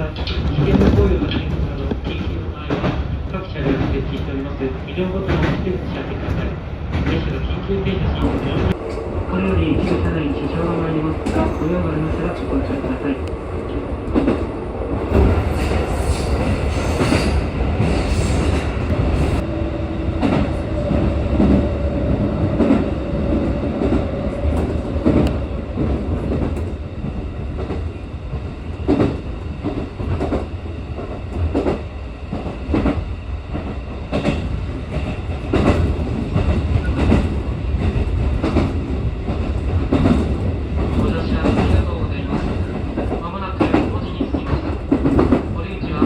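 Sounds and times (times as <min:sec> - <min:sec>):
train rumble: 0:00.0 - 0:46.0.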